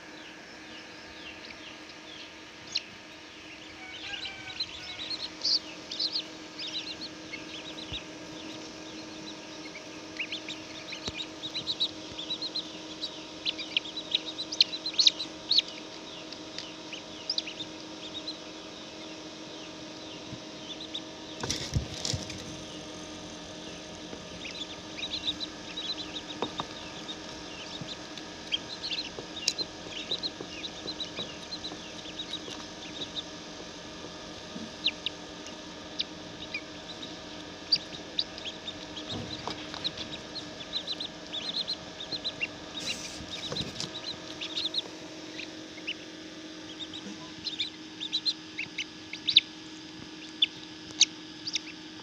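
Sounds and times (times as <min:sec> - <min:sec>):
chicks peeping: 0:00.0 - 0:52.0
incubator electrical hum: 0:00.0 - 0:52.0.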